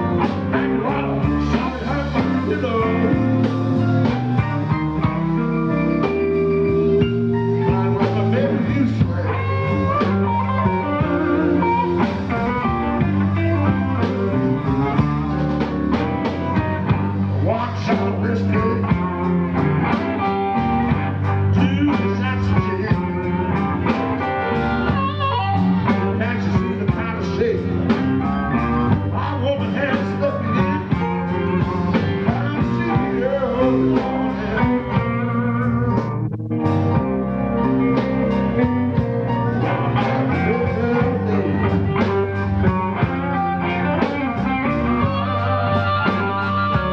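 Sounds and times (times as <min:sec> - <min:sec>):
bass: 0:00.0 - 0:46.9
guitar: 0:00.0 - 0:46.9
live blues band playing: 0:00.0 - 0:46.9.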